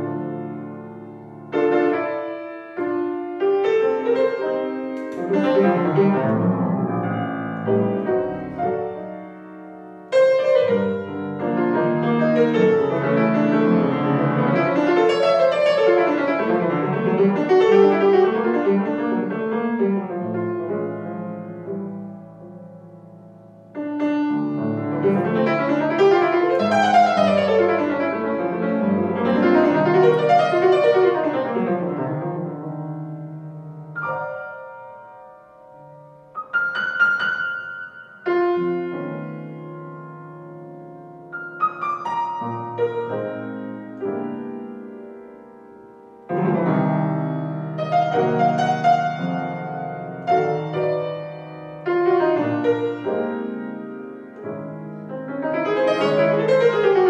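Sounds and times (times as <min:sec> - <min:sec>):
jazz piano solo: 0:00.0 - 0:57.0.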